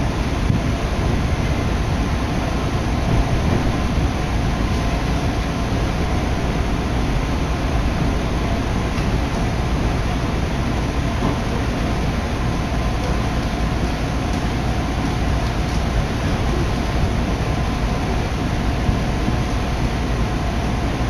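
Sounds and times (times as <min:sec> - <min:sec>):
train running noise inside car: 0:00.0 - 0:21.0.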